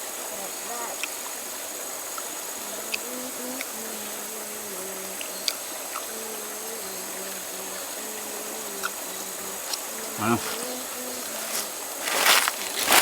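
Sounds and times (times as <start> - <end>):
insect buzzing: 0.0 - 13.0
river water running: 0.0 - 13.0.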